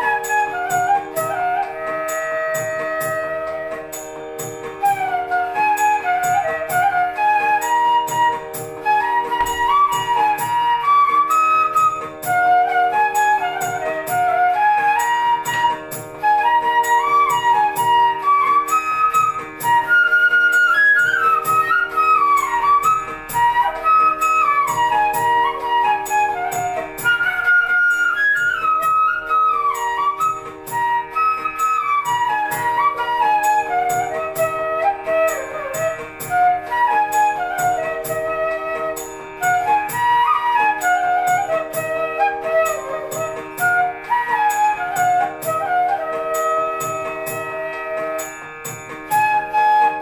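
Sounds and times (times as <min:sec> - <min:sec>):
bamboo flute melody: 0:00.0 - 0:50.0
light percussion beat: 0:00.0 - 0:50.0.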